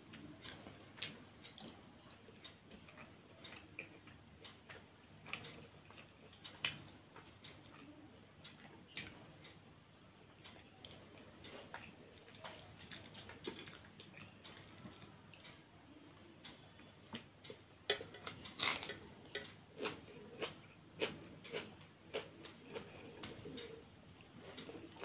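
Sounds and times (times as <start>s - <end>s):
person chewing with wet smacks: 0.1s - 25.0s.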